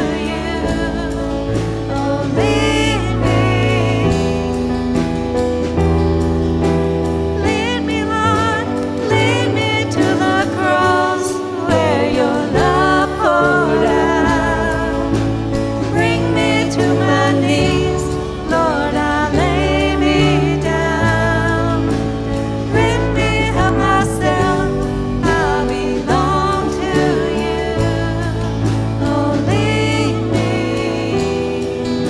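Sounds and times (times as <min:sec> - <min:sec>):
worship band playing: 0:00.0 - 0:32.0.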